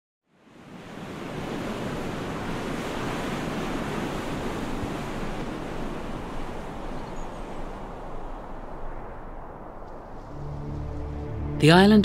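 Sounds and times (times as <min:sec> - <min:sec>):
sea waves washing: 0:00.4 - 0:12.0.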